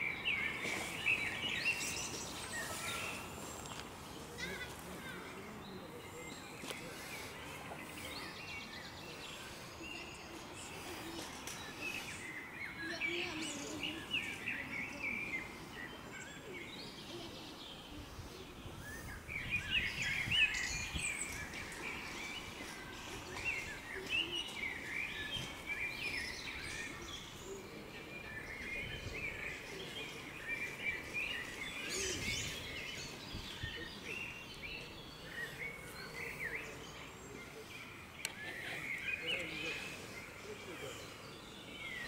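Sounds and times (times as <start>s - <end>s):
faint outdoor background noise: 0.0s - 42.0s
small birds chirping and singing: 0.0s - 42.0s.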